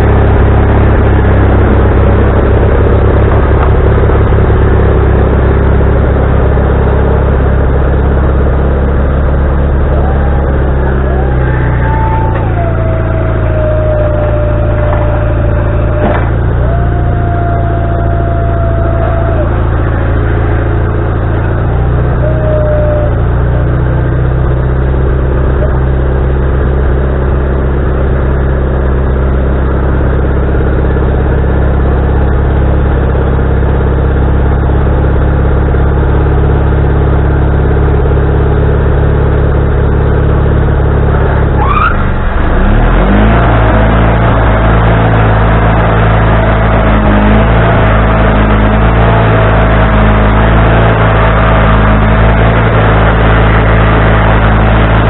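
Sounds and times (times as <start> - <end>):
sawmill engine running: 0.0 - 55.0
steady whine: 0.0 - 55.0.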